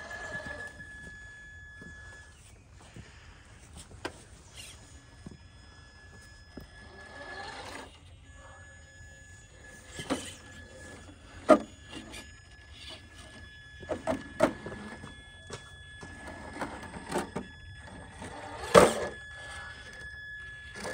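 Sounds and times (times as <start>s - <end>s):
electric motor whine: 0.0s - 20.9s.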